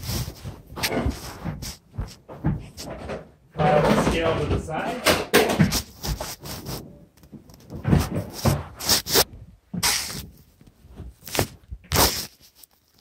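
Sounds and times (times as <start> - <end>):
rustling and brushing: 0.0 - 3.2, 5.6 - 13.0.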